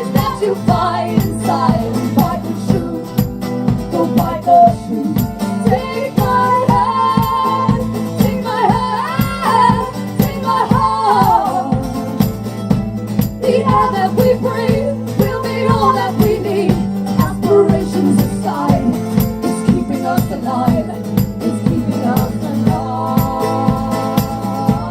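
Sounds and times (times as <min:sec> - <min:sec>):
person singing: 0:00.0 - 0:12.2, 0:13.4 - 0:24.9
strummed rhythm: 0:00.0 - 0:24.9.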